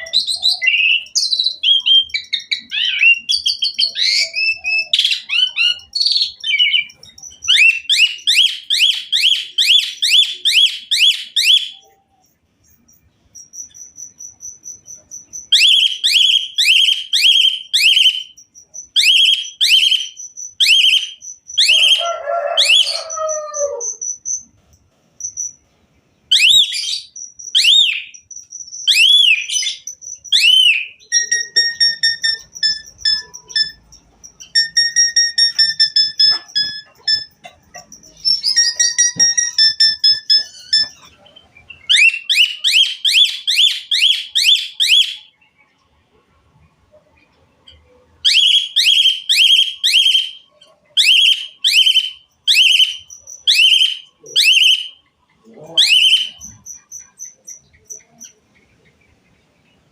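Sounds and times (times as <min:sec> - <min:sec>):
starling singing: 0:00.0 - 0:24.2, 0:26.3 - 0:45.4, 0:47.7 - 0:59.8.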